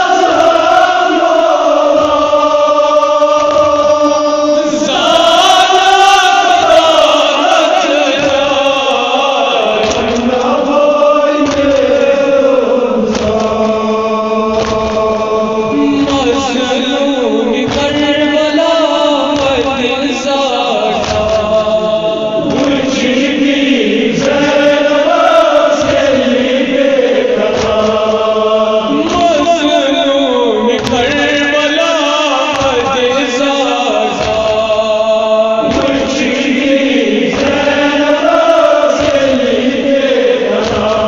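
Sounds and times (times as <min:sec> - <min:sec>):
voices chanting a lament: 0:00.0 - 0:41.0.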